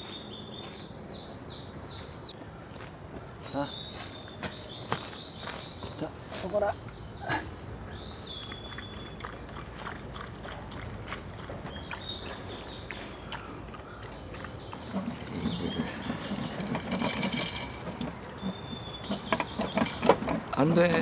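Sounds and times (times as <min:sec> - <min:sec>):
small birds chirping: 0:00.0 - 0:02.6, 0:03.2 - 0:21.0.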